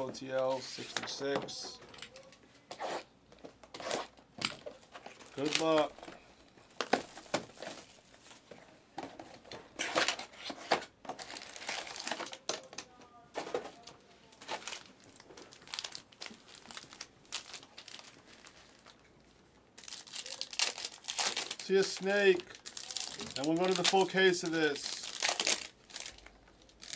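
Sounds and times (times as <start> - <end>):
plastic and foil wrappers crinkling: 3.6 - 26.9.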